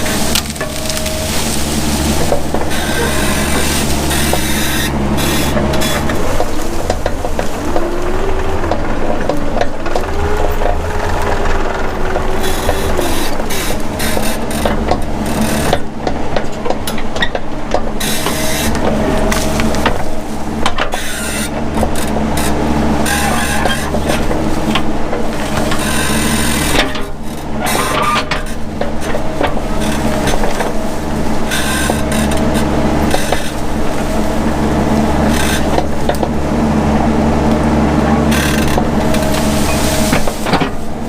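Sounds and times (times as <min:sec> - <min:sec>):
brush and wood crackling: 0:00.0 - 0:15.9, 0:18.0 - 0:36.7, 0:37.6 - 0:41.0
excavator engine running: 0:00.0 - 0:41.0.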